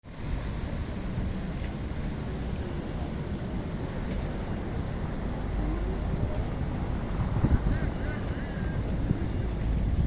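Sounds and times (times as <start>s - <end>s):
wind and rain: 0.0s - 10.0s
wind rumbling on microphone: 0.0s - 10.0s.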